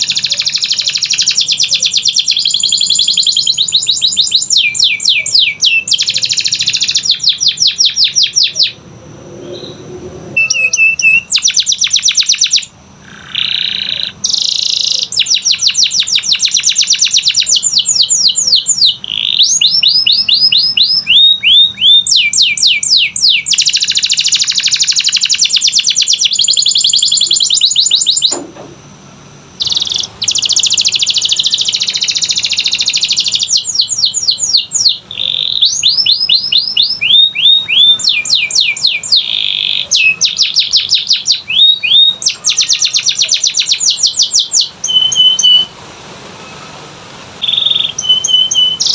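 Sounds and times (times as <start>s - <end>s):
canary singing trills: 0.0s - 28.4s, 29.6s - 48.9s.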